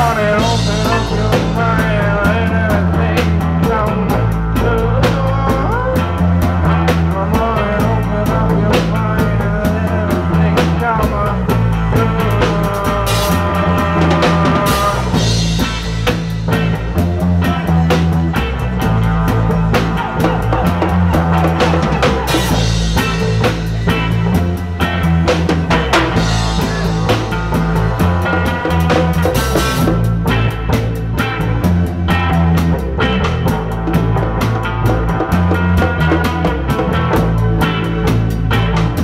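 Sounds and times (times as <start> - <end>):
bass guitar line: 0.0 - 39.0
drum kit beat: 0.0 - 39.0
reggae band playing: 0.0 - 39.0.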